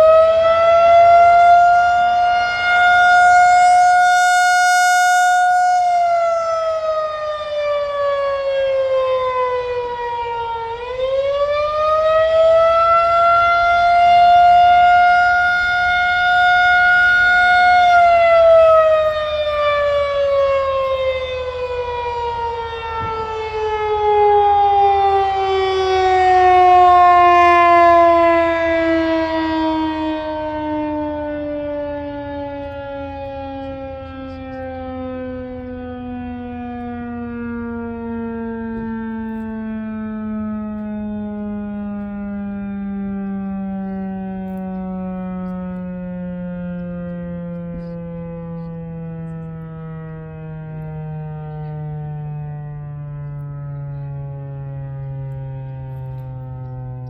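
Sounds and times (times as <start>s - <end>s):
wailing warning siren: 0.0s - 57.0s.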